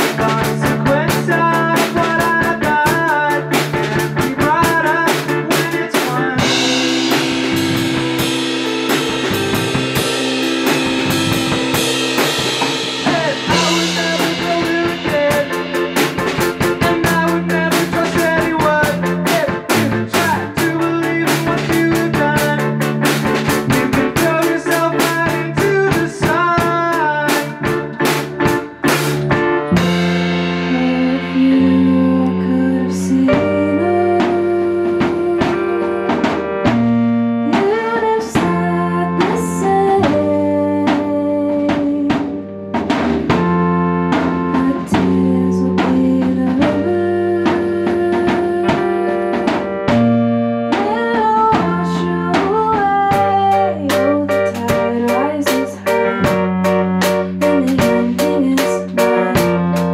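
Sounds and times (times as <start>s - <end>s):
bent electric guitar notes: 0.0s - 59.9s
drum kit snare and cymbals: 0.0s - 59.9s
rock band playing live: 0.0s - 59.9s.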